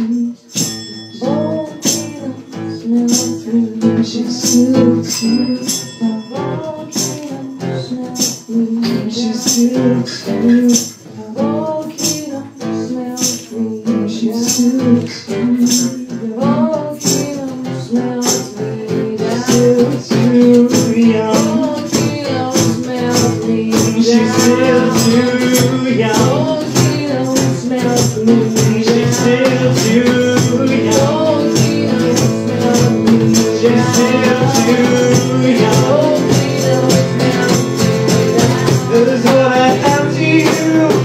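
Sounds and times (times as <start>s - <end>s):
acoustic guitar: 0.0s - 41.0s
hand percussion: 0.0s - 41.0s.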